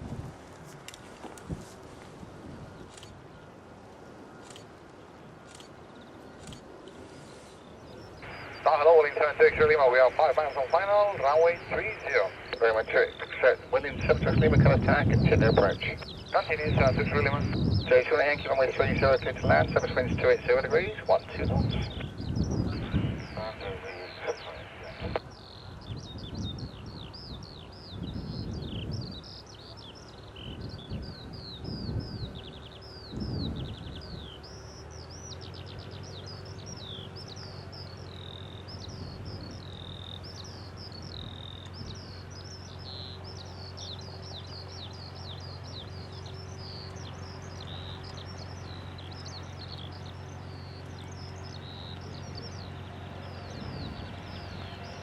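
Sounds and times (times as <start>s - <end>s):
steady low hum: 2.3s - 55.0s
small birds chirping: 4.2s - 55.0s
low gusty rumbles: 7.7s - 34.7s, 35.5s - 55.0s.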